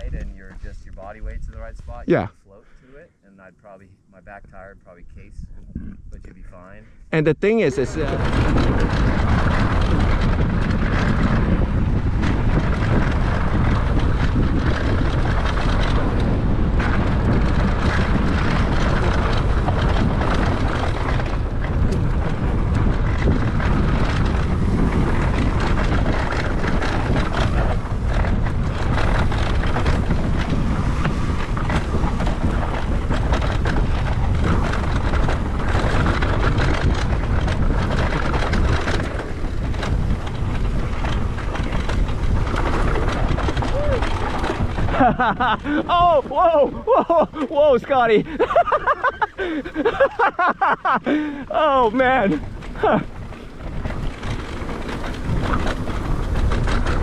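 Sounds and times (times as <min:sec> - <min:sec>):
wind buffeting microphone: 0:00.0 - 0:02.8, 0:03.6 - 0:57.0.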